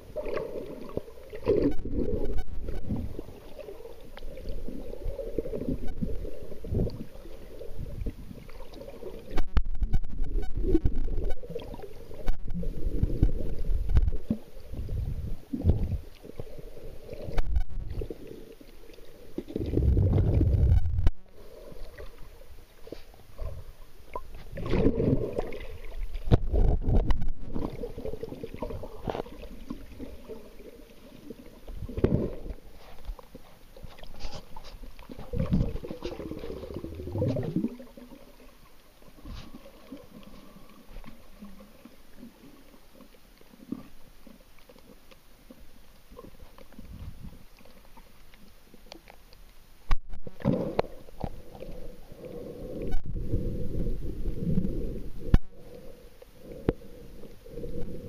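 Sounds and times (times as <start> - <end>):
muffled underwater sloshing: 0.0 - 58.0.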